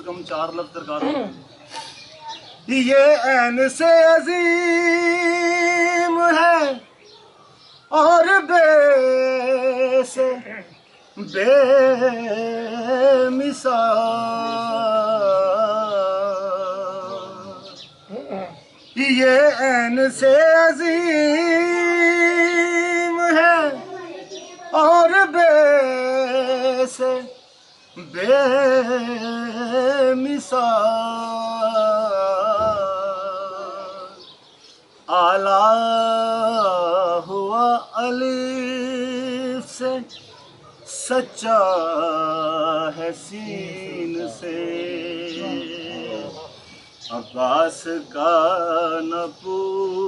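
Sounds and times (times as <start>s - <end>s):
man singing unaccompanied: 0.0s - 1.6s, 2.6s - 7.0s, 7.8s - 18.1s, 18.8s - 50.0s.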